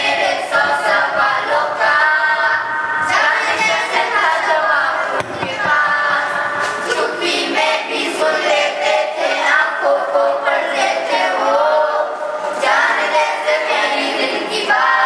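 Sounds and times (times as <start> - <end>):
children singing in chorus: 0.0 - 15.0.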